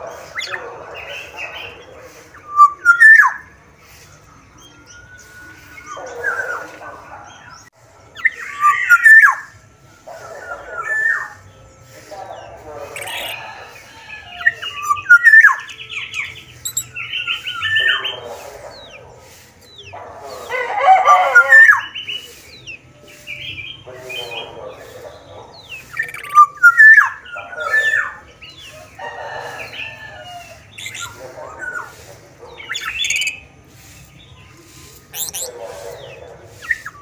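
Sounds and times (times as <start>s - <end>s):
bird calling with whistles and trills: 0.0s - 9.6s, 10.3s - 28.8s, 29.6s - 37.0s.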